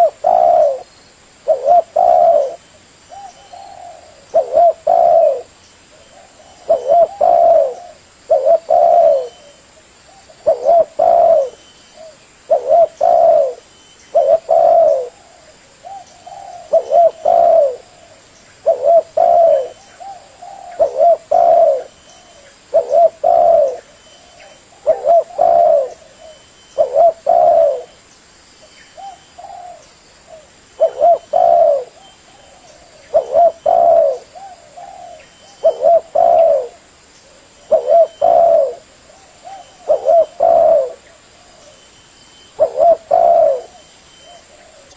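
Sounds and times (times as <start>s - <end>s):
dove cooing: 0.0s - 28.0s, 29.0s - 41.9s, 42.5s - 44.9s.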